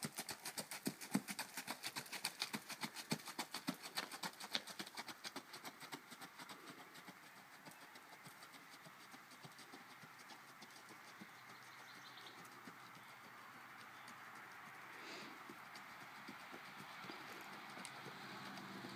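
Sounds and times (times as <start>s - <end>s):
horse hoofbeats on dirt: 0.0s - 18.9s.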